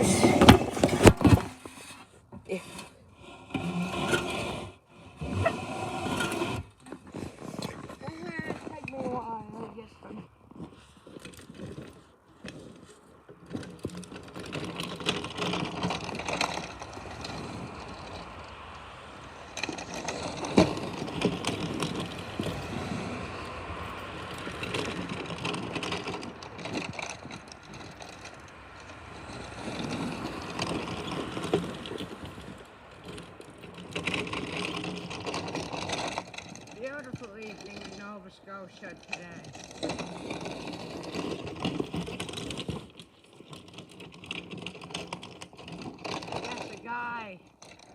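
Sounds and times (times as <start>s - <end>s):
snow plow blade scraping: 0.0s - 47.9s.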